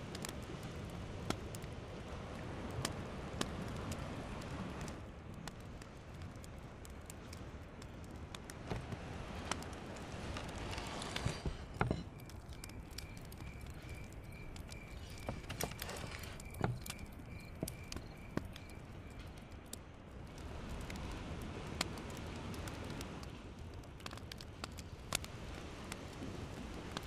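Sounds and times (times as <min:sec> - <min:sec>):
crackles and clicks: 0:00.0 - 0:27.0.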